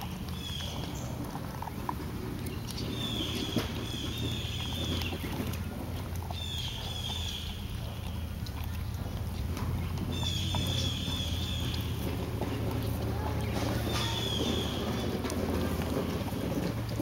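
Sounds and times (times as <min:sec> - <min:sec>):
dog chewing crunching clicks: 0:00.0 - 0:17.0
steady low rumble: 0:00.0 - 0:17.0.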